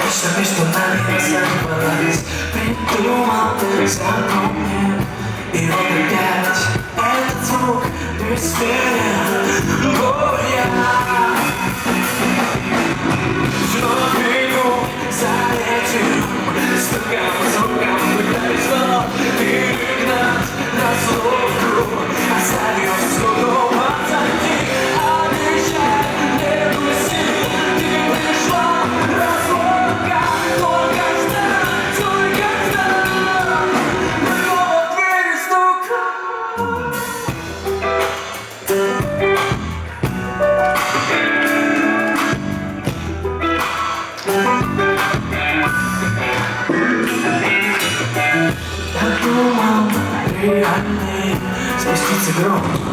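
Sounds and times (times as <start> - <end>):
live rock band: 0.0 - 52.9.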